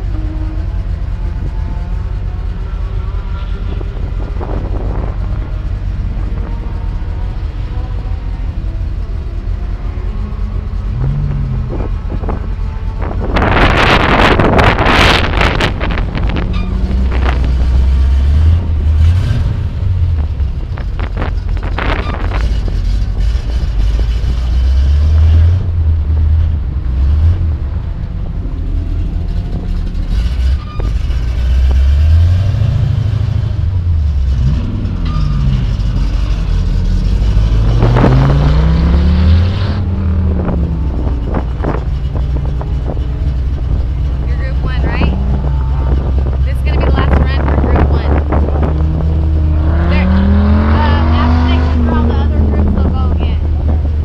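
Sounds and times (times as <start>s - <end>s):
car engine idling: 0.0s - 39.2s, 39.8s - 54.0s.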